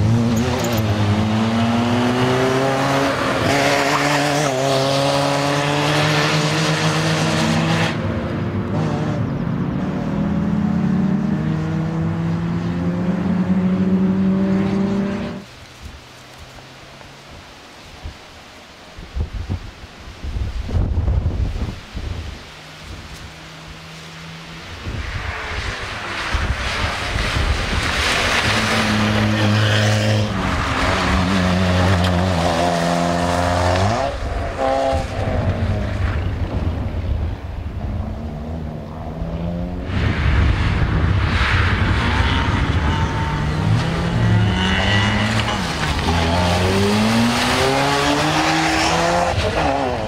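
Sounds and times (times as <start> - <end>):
rally car engine revving: 0.0 - 15.5, 23.5 - 36.9, 37.8 - 50.0.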